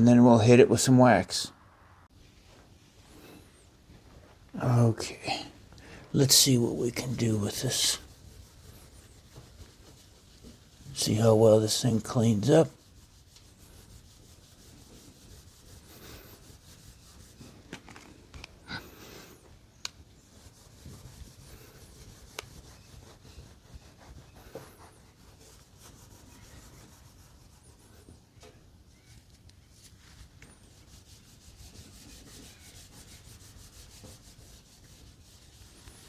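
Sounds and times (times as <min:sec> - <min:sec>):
cloth rubbing on metal: 0:06.1 - 0:19.4, 0:20.0 - 0:36.0.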